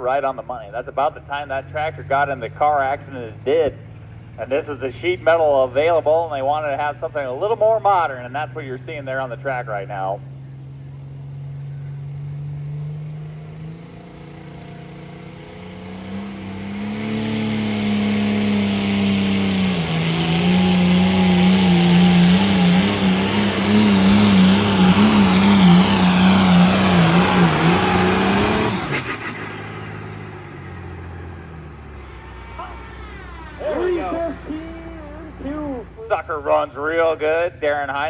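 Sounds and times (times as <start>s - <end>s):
diesel tractor engine at full power: 0.0s - 38.0s.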